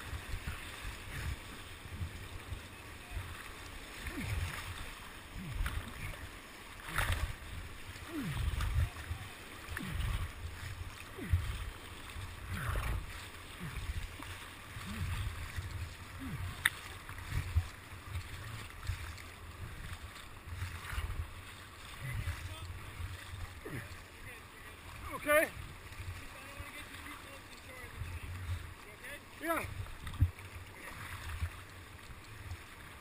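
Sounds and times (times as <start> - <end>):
rushing water: 0.0 - 33.0
waves splashing over camera: 0.0 - 33.0.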